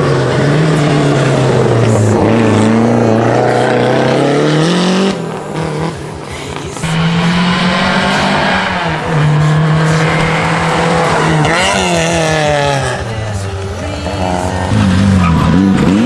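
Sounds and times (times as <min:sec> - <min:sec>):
rally car engine at high revs: 0:00.0 - 0:16.0.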